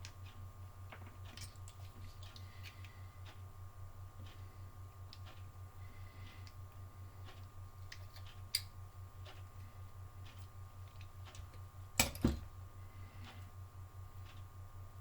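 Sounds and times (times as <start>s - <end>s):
low pulsing hum: 0.0s - 15.0s.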